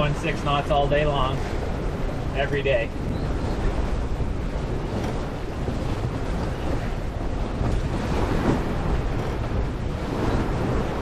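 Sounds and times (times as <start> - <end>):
water rushing past hull: 0.0 - 11.0
wind buffeting microphone: 0.0 - 11.0.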